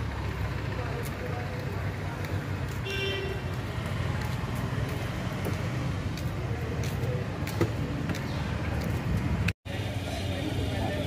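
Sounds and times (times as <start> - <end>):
vehicle engines running: 0.0 - 11.0.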